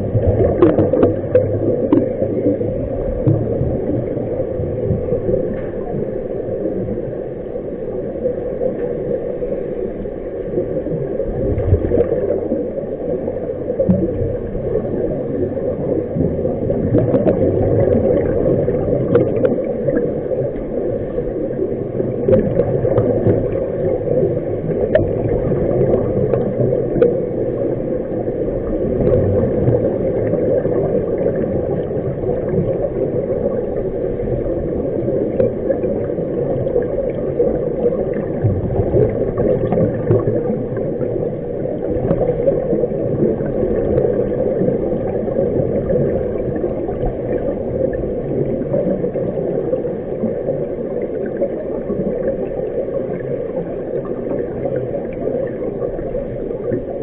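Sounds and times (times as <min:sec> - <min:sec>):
muffled underwater noise: 0:00.0 - 0:57.0
regulator bubbles gurgling: 0:00.0 - 0:57.0.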